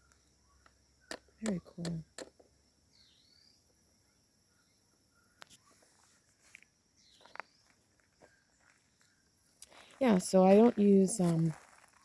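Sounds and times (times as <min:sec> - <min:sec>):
faint chirp: 0:00.0 - 0:10.3
steady high-pitched hiss: 0:00.0 - 0:12.0.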